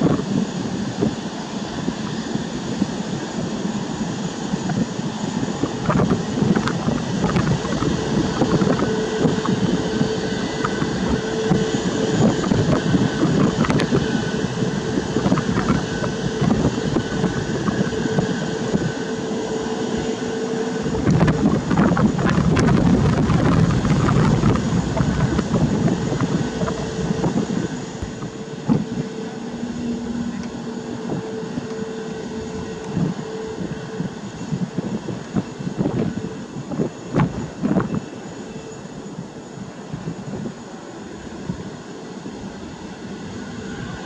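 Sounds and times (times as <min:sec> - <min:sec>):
jet engines at takeoff thrust: 0:00.0 - 0:44.0.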